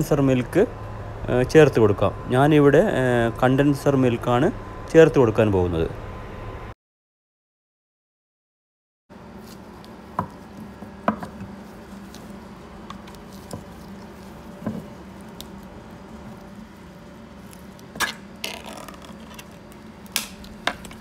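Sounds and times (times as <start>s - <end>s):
steady low hum: 0.0s - 6.8s, 9.1s - 21.0s.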